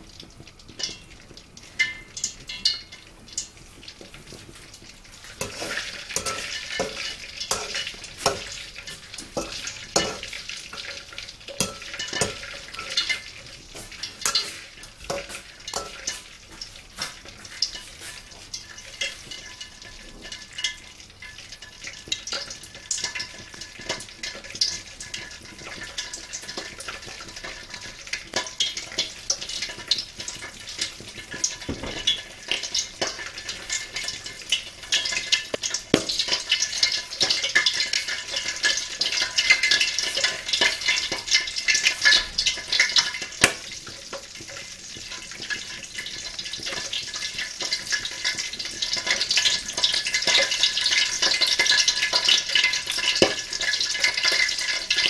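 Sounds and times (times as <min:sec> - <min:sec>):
peanuts sizzling in oil: 0:00.0 - 0:55.0.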